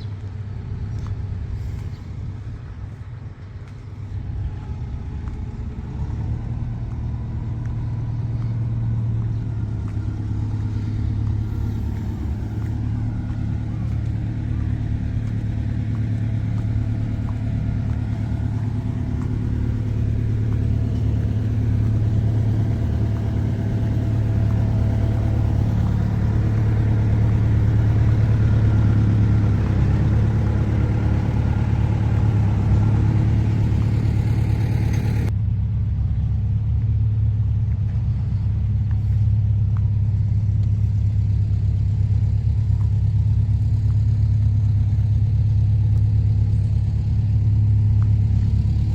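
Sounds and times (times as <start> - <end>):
diesel engine humming: 0.0 - 48.9.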